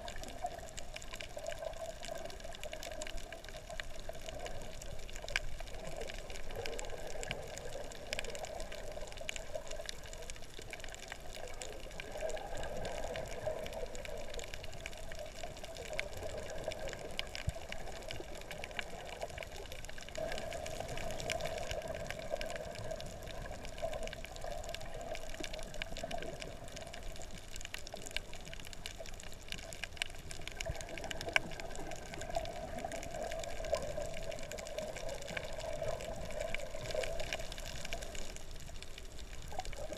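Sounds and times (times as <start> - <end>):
faint clicks: 0.0 - 39.9
muffled underwater rush: 0.0 - 39.9.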